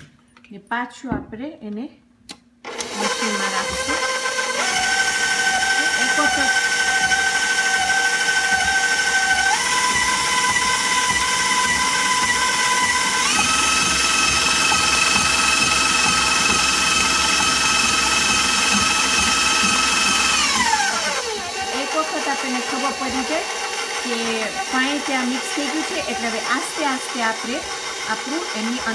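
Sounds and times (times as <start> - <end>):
stand mixer motor whining: 2.7 - 28.9.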